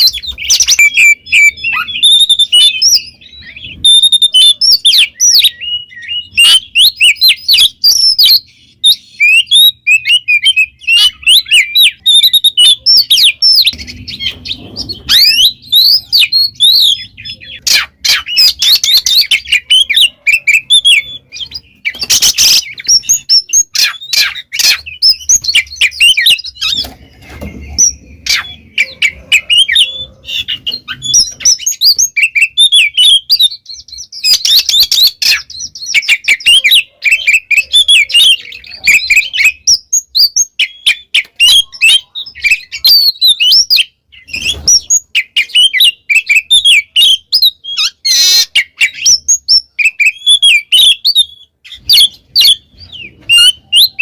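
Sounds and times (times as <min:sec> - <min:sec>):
songbird whistles and chirps: 0:00.0 - 0:54.0.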